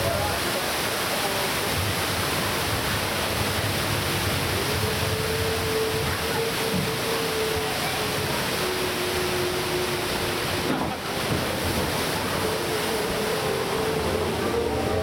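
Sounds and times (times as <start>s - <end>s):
water rushing in flume channel: 0.0s - 15.0s.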